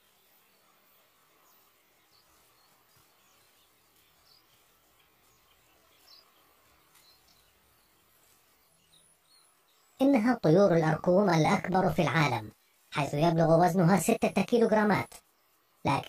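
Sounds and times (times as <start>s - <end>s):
soft bird chirps: 0.0s - 16.0s.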